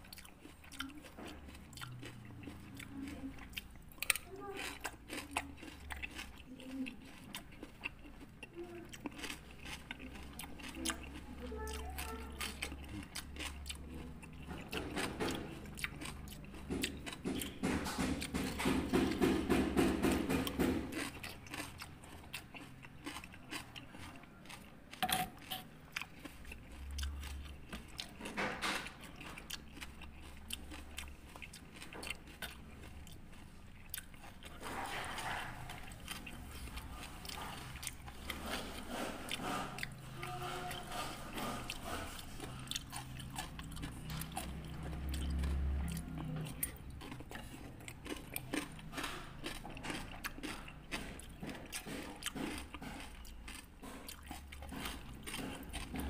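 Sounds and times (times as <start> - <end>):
close chewing and crunching: 0.0 - 56.0.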